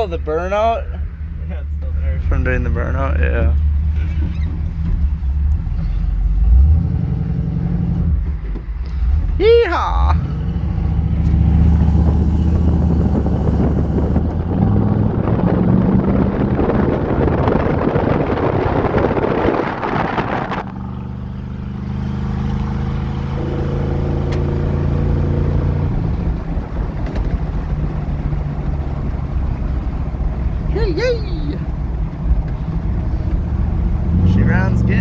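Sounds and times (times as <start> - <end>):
car engine running hard: 0.0 - 35.0.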